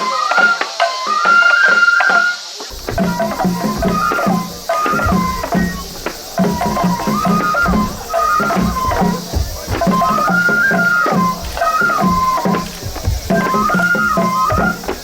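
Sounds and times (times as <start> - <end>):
bamboo flute melody: 0.0 - 15.0
taiko drum beats: 2.7 - 15.0.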